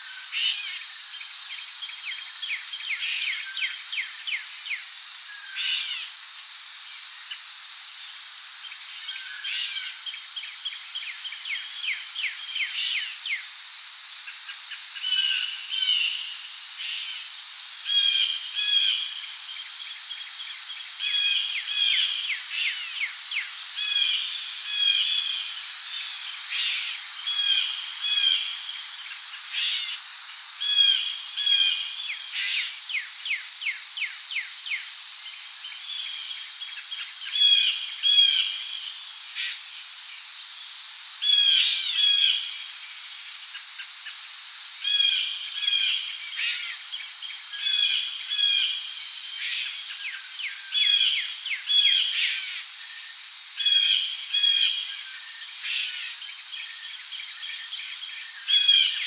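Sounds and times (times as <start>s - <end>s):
crickets droning: 0.0s - 59.0s.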